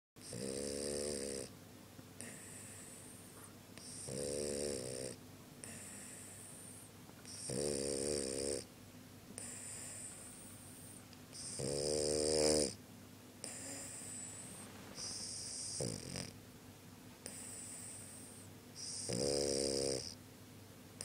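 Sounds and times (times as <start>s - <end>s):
dog snoring: 0.2s - 1.6s, 2.2s - 8.7s, 9.4s - 12.8s, 13.4s - 16.4s, 17.2s - 20.2s.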